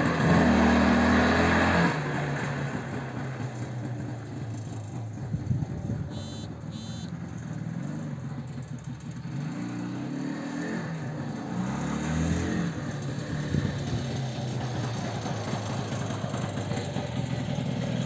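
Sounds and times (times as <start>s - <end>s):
two-stroke engines revving: 0.0s - 18.0s.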